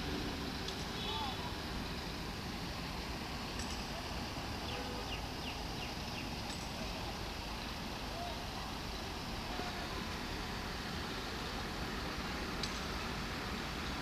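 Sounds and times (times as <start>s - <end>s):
steady rumbling noise: 0.0s - 14.0s.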